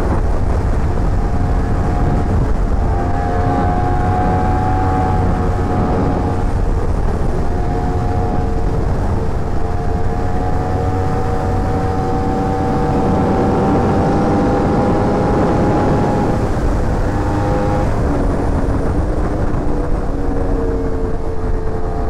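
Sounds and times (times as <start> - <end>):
motorcycle engine at high speed: 0.0 - 22.0
wind noise: 0.0 - 22.0.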